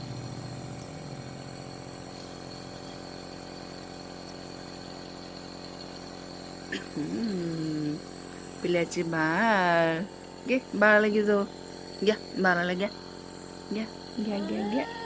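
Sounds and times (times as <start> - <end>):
nebulizer motor humming: 0.0 - 15.0.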